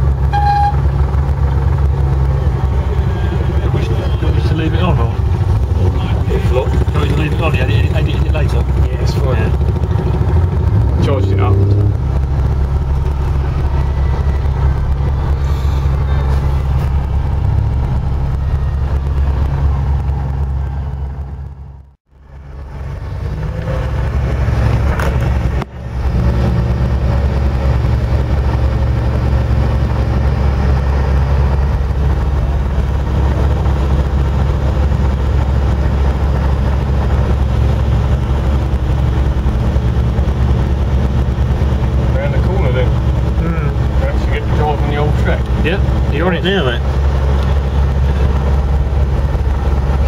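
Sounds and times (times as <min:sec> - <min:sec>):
car engine low drone: 0:00.0 - 0:50.0.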